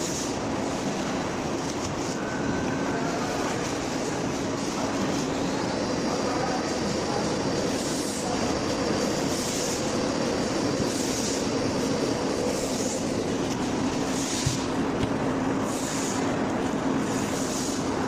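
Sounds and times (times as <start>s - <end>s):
packaging machine running: 0.0s - 18.0s.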